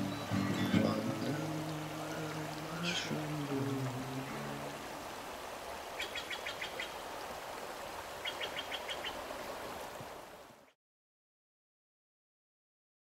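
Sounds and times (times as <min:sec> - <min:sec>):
river water rushing: 0:00.0 - 0:10.7.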